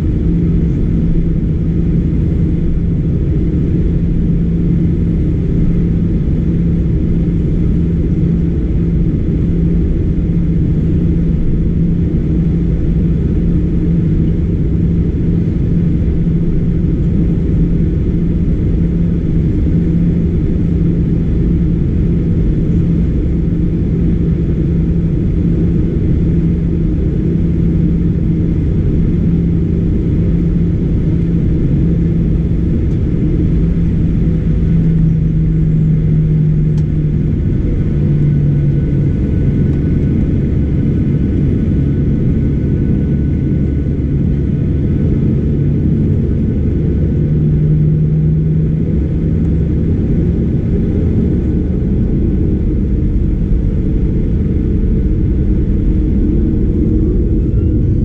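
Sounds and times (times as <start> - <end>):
aircraft cabin rumble: 0.0 - 58.0
jet engine hum: 0.0 - 58.0.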